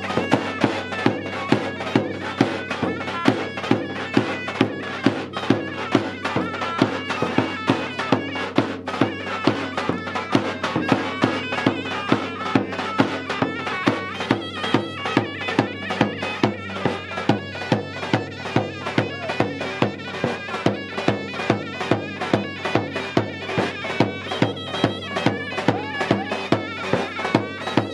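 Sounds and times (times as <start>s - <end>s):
drum beating: 0.0s - 27.9s
reedy wind instrument melody: 0.0s - 27.9s.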